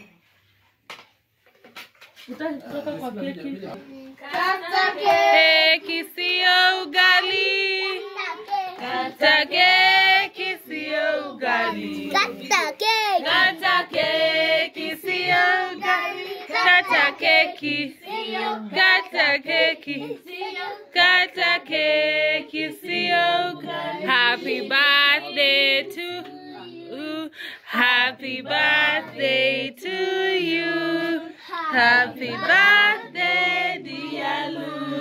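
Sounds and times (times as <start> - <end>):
children singing a birthday song: 4.1 - 35.0.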